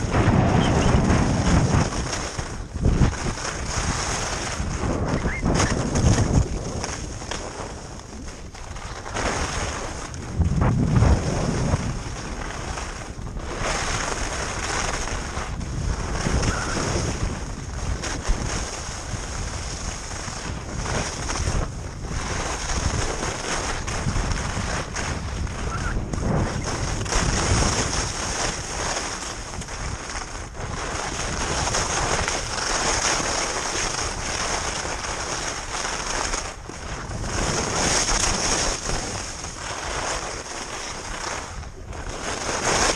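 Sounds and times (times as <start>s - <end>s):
skis scraping on snow: 0.0s - 42.9s
wind rushing over microphone: 0.0s - 42.9s.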